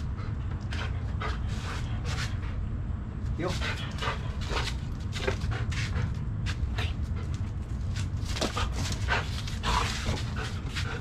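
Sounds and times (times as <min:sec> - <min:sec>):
dog panting hard: 0:00.0 - 0:02.7, 0:03.4 - 0:07.8, 0:08.4 - 0:11.0
steady low rumble: 0:00.0 - 0:11.0.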